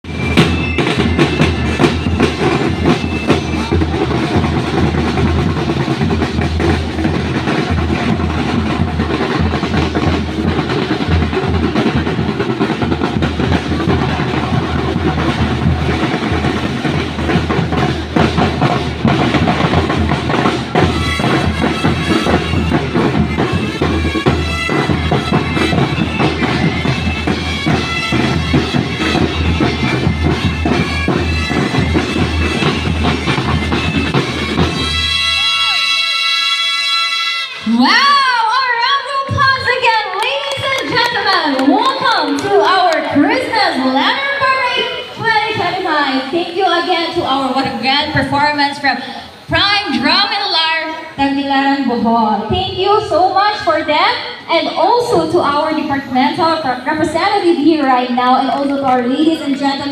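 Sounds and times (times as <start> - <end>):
snare and bass drum beats: 0.0 - 48.9.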